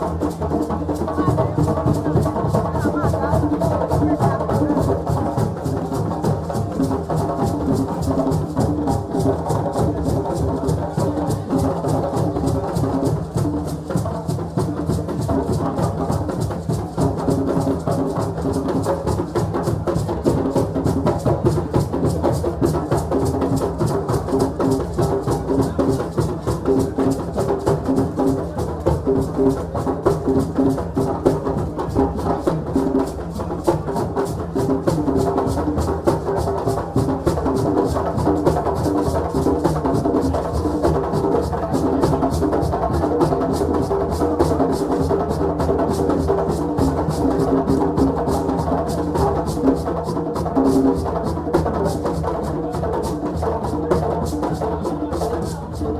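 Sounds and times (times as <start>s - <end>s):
drums playing fast rhythm: 0.0s - 55.9s.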